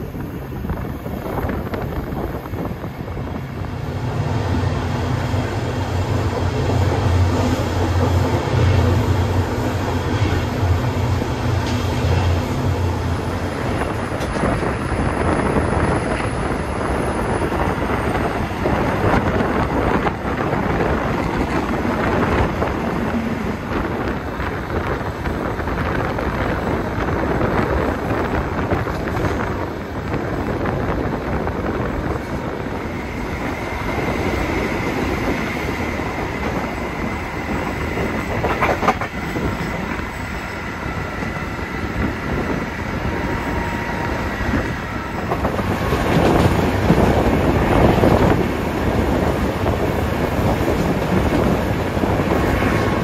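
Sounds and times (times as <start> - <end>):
train coach rumbling: 0.0 - 53.0.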